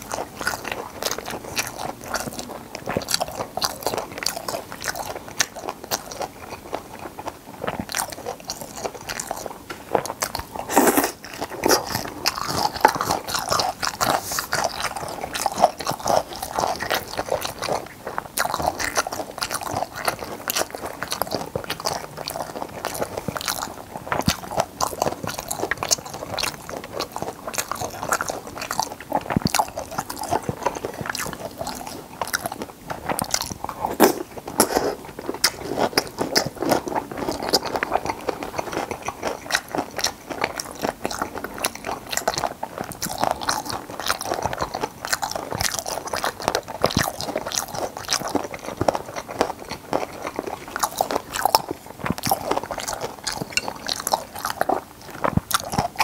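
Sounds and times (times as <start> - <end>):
person chewing wet crunchy food: 0.0 - 56.0.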